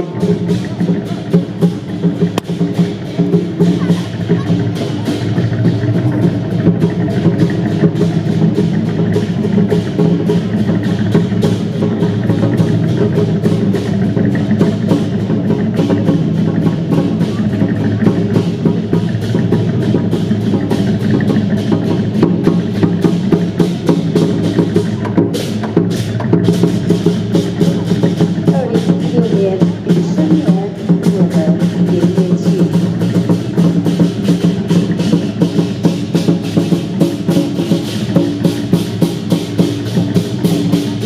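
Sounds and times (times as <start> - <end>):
drums beating: 0.0 - 41.0
rapid clacking strikes: 0.0 - 41.0.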